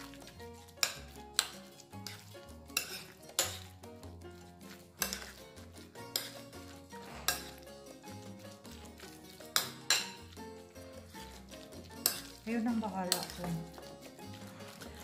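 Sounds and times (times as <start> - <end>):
metal spoon scraping bowl: 0.0 - 15.0
soft background music: 0.0 - 15.0.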